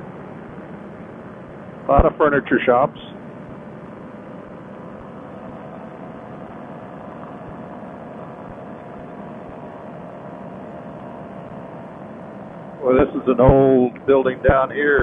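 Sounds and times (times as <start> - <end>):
muffled engine and propeller drone: 0.0 - 15.0.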